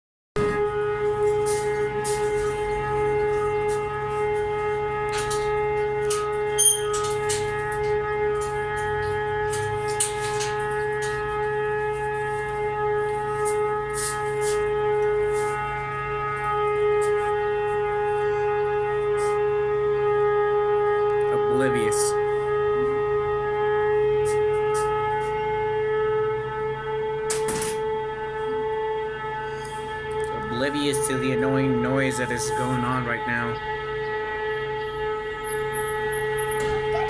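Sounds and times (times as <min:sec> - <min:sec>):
droning hum with overtones: 0:00.4 - 0:37.0.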